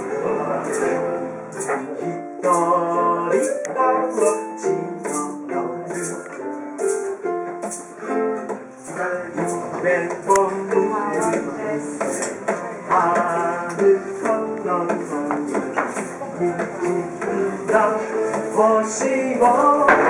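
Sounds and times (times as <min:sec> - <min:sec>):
shaker beat: 0:00.0 - 0:20.0
ukulele playing a tune: 0:00.0 - 0:20.0.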